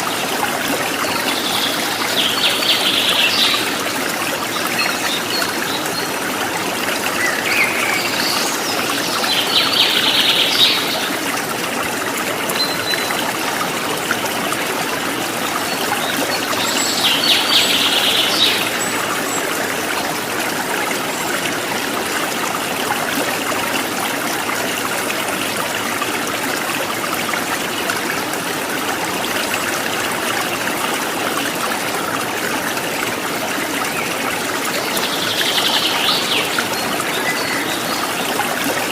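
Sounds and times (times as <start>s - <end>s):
water trickling over stones: 0.0s - 38.9s.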